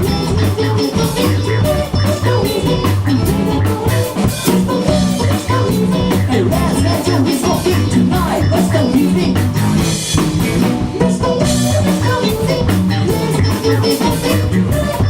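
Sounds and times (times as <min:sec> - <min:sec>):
drum kit: 0:00.0 - 0:15.0
guitar: 0:00.0 - 0:15.0
repeating bass line: 0:00.0 - 0:15.0.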